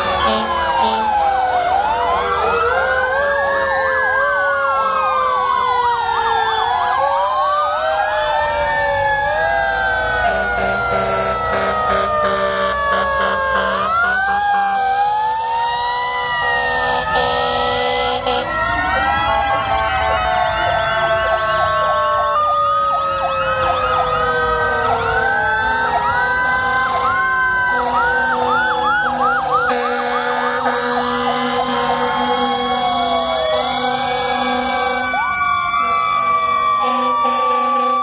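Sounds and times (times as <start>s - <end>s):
fast siren yelp: 0.0s - 38.0s
long falling siren tone: 0.0s - 38.0s
sirens wailing: 0.0s - 38.0s.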